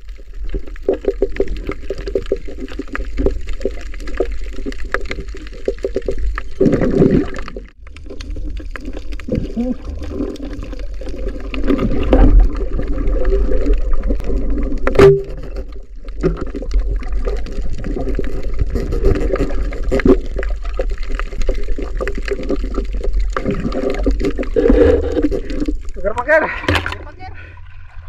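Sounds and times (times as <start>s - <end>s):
underwater churning and gurgling: 0.0s - 28.0s.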